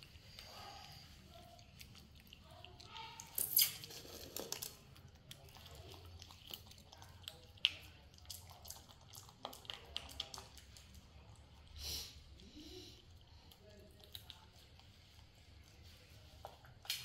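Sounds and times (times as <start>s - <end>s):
monkeys chewing: 0.0s - 17.0s.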